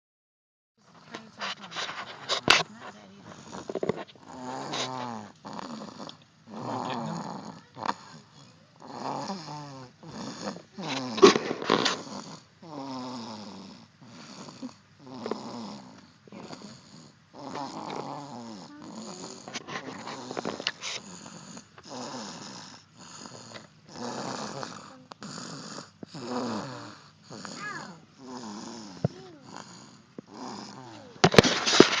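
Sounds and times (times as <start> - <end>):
rasping snoring: 0.8 - 32.0.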